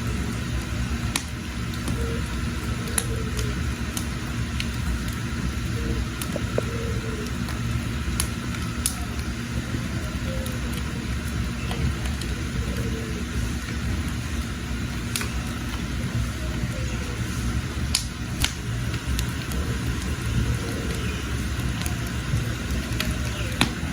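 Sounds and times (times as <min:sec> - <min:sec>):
wood crackling and popping: 0:00.0 - 0:23.9
wood fire burning: 0:00.0 - 0:23.9.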